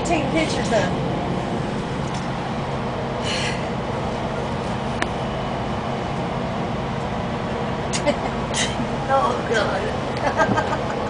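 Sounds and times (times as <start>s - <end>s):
train rumble from inside car: 0.0s - 11.0s.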